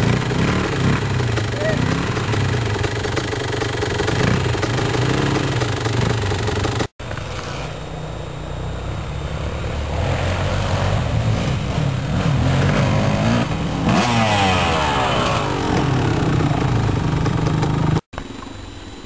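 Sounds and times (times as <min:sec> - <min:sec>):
motorcycle engine revving: 0:00.0 - 0:18.1
dirt bike engines running: 0:00.0 - 0:18.6.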